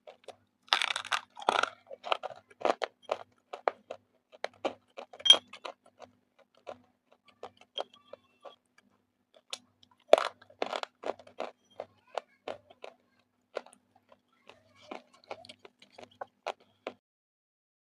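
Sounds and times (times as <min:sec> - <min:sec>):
crunching between teeth: 0:00.0 - 0:08.6, 0:09.4 - 0:17.0.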